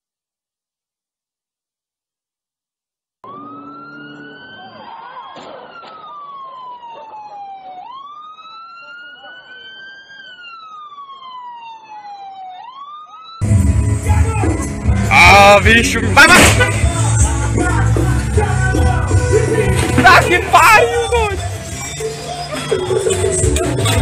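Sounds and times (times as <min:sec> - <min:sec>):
emergency siren wailing: 0:03.2 - 0:14.9, 0:15.6 - 0:24.0.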